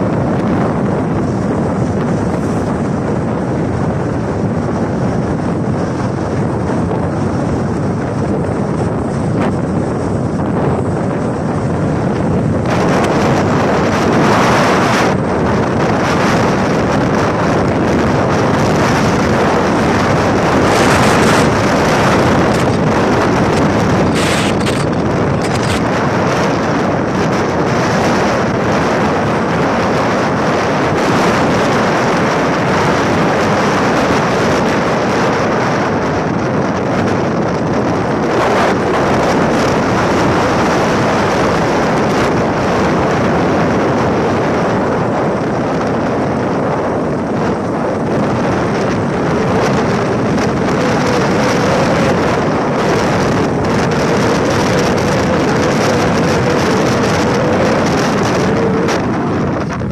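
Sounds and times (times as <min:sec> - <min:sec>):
vehicle running noise: 0:00.0 - 0:59.9
wind rushing over microphone: 0:00.0 - 0:59.9.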